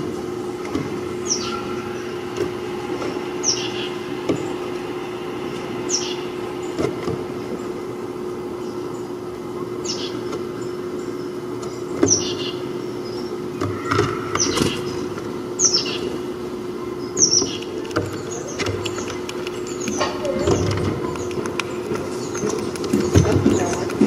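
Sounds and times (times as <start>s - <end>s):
steady low hum: 0.0s - 24.0s
songbird chirping: 1.2s - 7.9s, 8.5s - 24.0s.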